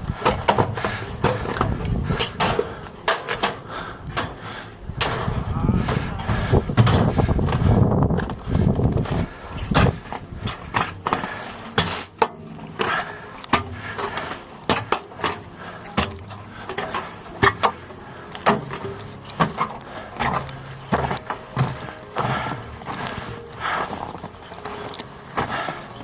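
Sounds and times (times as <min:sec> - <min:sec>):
footsteps in snow: 0:00.0 - 0:26.0.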